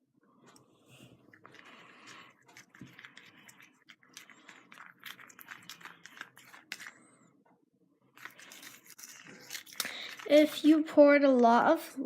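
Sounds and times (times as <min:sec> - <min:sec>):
slime stirring squelches: 0:00.9 - 0:07.4, 0:08.0 - 0:12.0.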